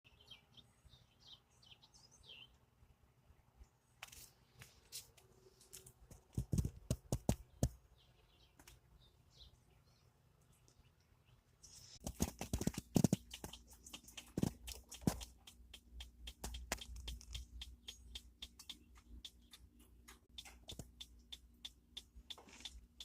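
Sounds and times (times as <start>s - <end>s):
birds chirping: 0.1s - 3.8s, 4.4s - 23.0s.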